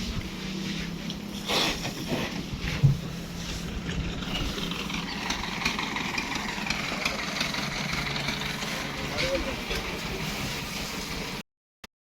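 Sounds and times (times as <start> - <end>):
engine idling: 0.0 - 11.4.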